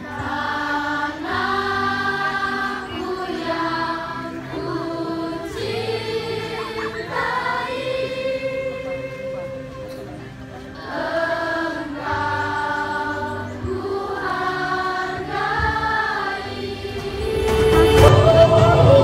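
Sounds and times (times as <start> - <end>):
group singing along: 0.0 - 9.6, 10.8 - 19.0.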